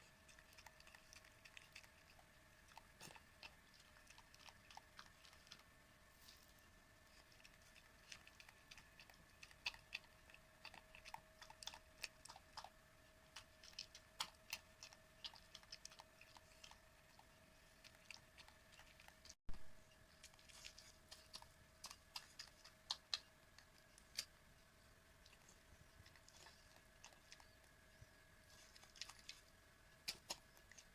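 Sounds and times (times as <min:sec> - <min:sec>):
dog chewing: 0:00.0 - 0:30.9
faint steady hum: 0:00.0 - 0:30.9.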